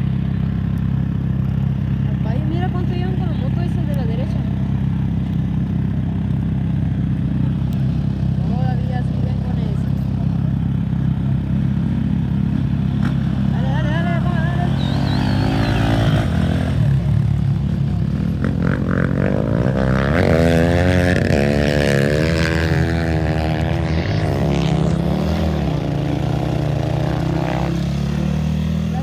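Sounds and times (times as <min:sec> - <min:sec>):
motorcycle engine revving: 0:00.0 - 0:29.0
off-road motorcycle engines: 0:00.0 - 0:29.0.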